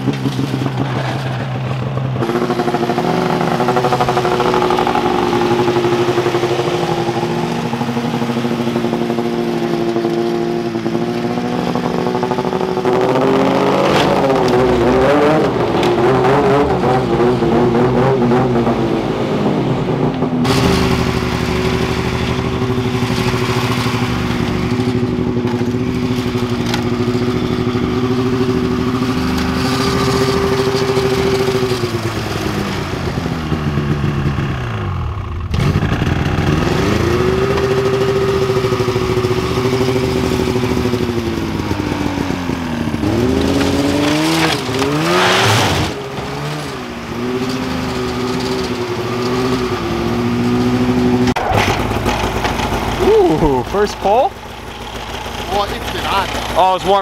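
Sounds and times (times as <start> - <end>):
snowmobile engine idling and revving: 0.0 - 57.0.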